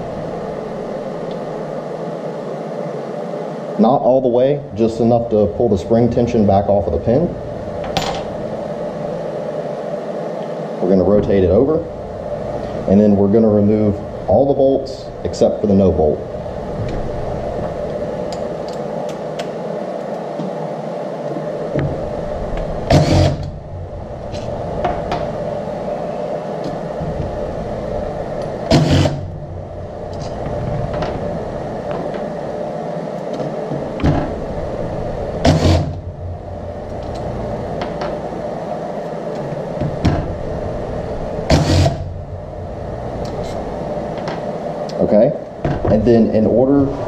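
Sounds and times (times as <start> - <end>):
steady background hum: 0.0 - 47.0.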